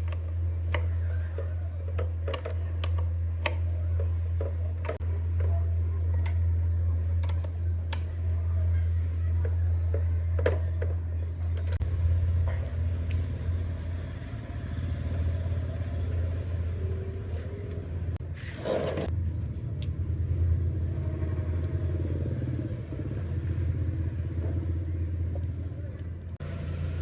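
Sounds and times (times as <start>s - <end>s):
electric fan motor humming: 0.0s - 18.4s, 19.0s - 27.0s.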